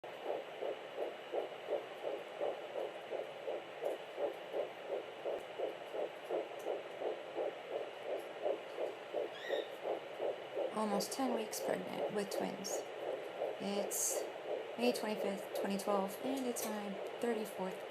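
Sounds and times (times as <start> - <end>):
rapid fetal heartbeat pulses: 0.0 - 17.9.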